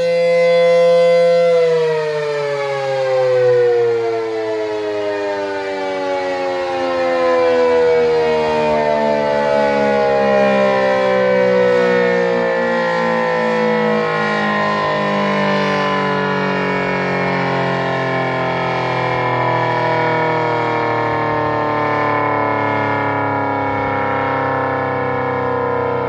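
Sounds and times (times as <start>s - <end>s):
warning siren winding down: 0.0s - 26.0s.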